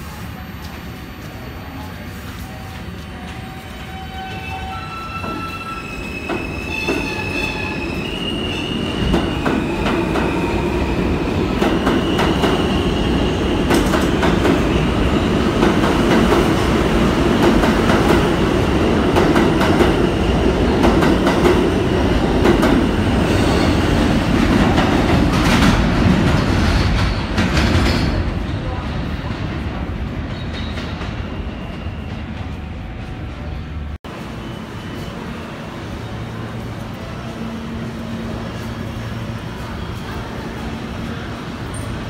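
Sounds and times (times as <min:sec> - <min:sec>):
subway train propulsion whine: 0:00.0 - 0:42.0.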